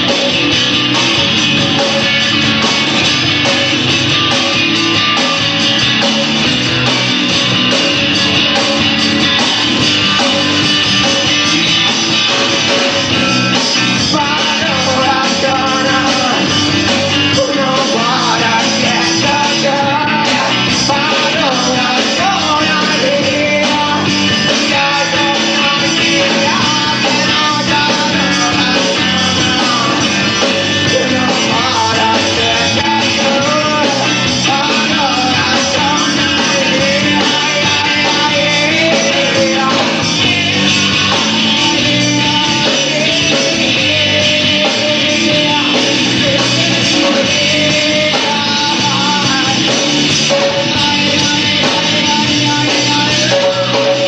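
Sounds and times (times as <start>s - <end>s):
rock band playing: 0.0s - 54.0s
person singing: 6.9s - 54.0s.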